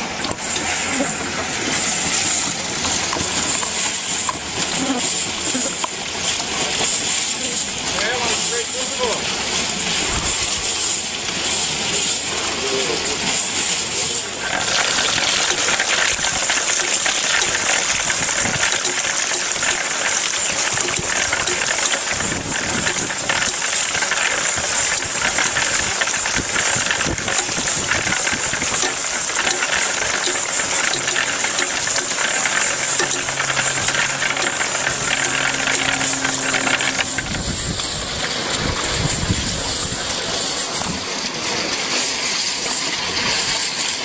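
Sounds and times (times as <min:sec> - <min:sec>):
water pump chain rattling: 0:00.0 - 0:44.0.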